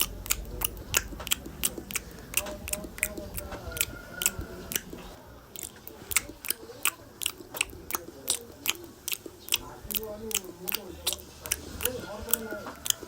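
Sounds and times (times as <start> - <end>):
open-mouthed chewing: 0.0 - 13.0.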